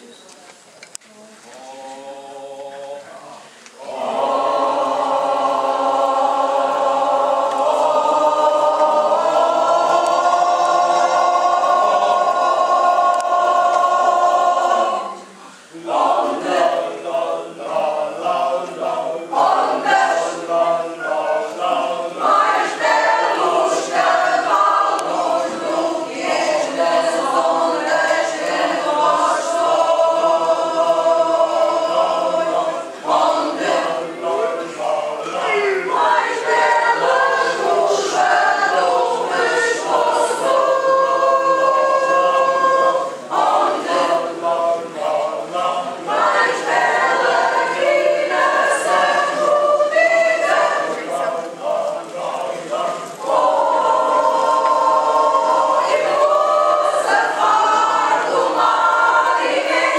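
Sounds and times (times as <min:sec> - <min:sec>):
choir singing a cappella: 0:01.5 - 0:59.9.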